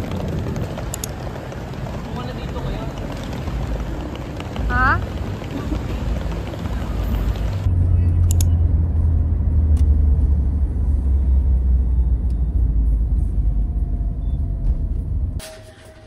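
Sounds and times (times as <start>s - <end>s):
car interior road rumble: 0.0s - 15.4s
street noise: 0.0s - 16.0s.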